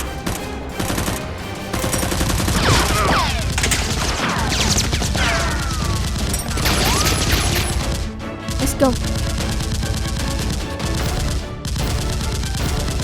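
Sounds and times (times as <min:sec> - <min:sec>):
action music with driving beat: 0:00.0 - 0:13.0
gunfire sound effects: 0:00.3 - 0:13.0.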